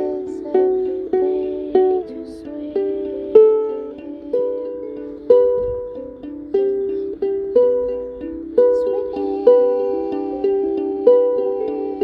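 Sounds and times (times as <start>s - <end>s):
ukulele strummed chords: 0.0s - 12.0s.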